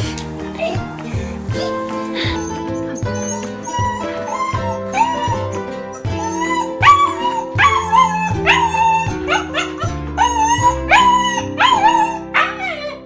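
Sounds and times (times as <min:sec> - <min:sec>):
background music: 0:00.0 - 0:13.0
puppy whining: 0:01.5 - 0:13.0.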